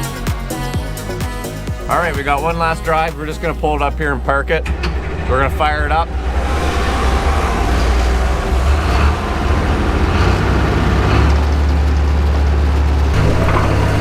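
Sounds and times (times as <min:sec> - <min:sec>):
excavator engine droning: 0:00.1 - 0:14.0.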